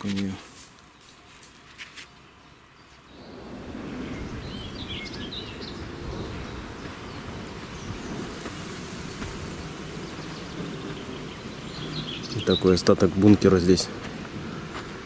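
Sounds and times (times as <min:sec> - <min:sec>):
small bird chirping: 0:00.9 - 0:13.8
steady low rumble: 0:02.5 - 0:15.0.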